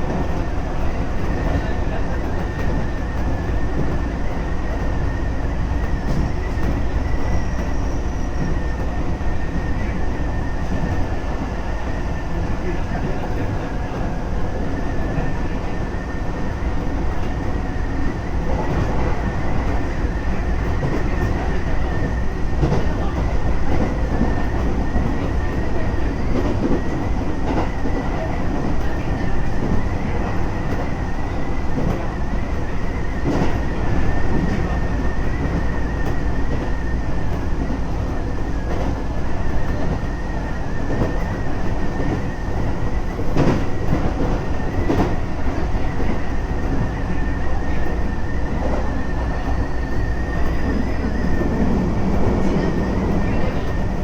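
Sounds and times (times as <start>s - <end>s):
high train whine: 0.0s - 54.0s
train wheels rumbling on rail: 0.0s - 54.0s.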